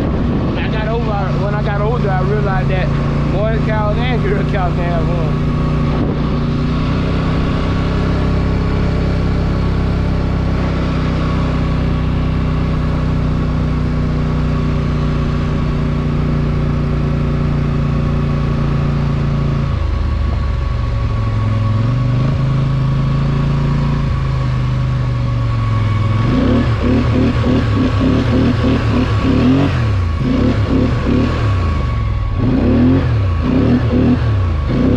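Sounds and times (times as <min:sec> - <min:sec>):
atv engine running: 0:00.0 - 0:34.9.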